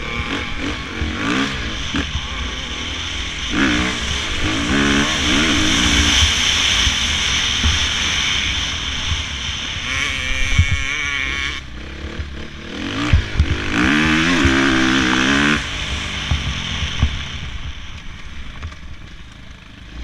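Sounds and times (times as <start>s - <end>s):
dirt bike engines revving: 0.0s - 20.0s
low rumble: 0.0s - 20.0s.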